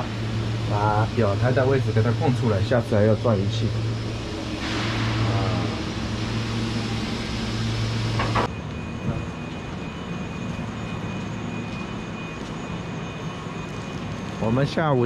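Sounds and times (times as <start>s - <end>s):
faint high whine: 0.0s - 15.0s
workshop machine hum and hiss: 0.0s - 15.0s.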